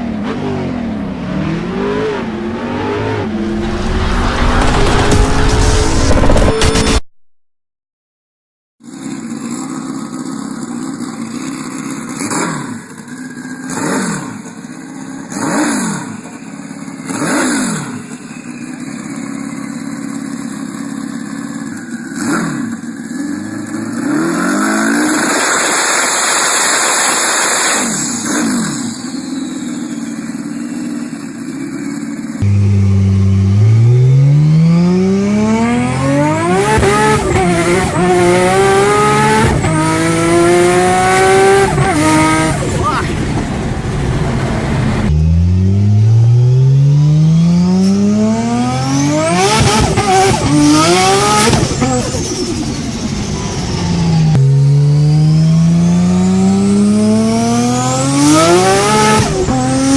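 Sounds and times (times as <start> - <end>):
car engine revving: 0.0 - 7.0, 9.4 - 59.9
car engine accelerating hard: 8.8 - 59.9.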